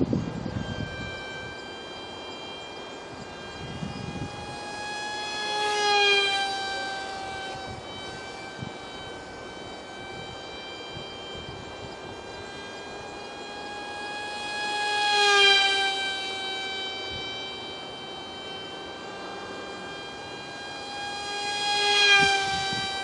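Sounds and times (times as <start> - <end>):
model jet propeller whining: 0.0 - 23.0.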